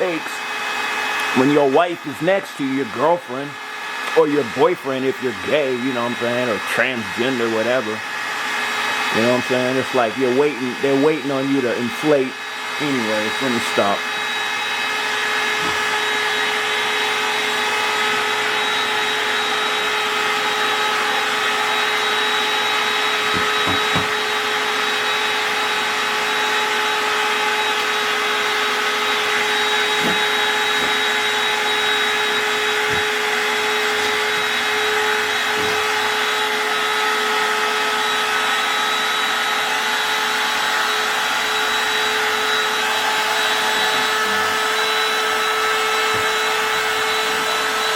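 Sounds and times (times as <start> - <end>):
electric air pump running: 0.0 - 47.9.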